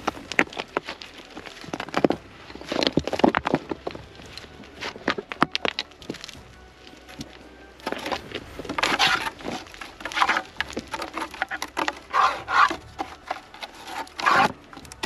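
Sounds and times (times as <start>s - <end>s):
stones crunching and scraping: 0.0s - 15.0s.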